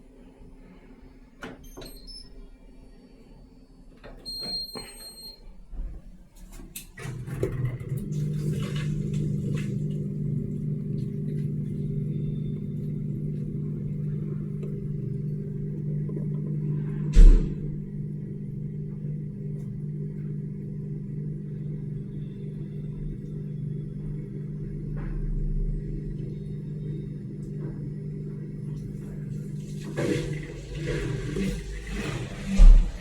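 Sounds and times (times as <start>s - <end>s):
washing machine running hum: 0.0s - 33.0s
washing machine clicks: 1.4s - 2.3s, 6.4s - 33.0s.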